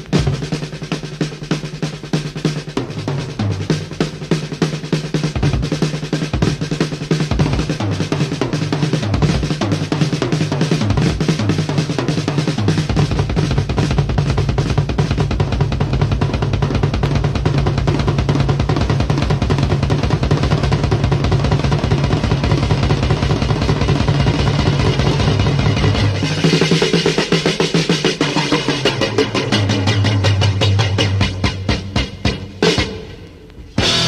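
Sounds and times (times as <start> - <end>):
rock drum kit playing: 0.0 - 34.0.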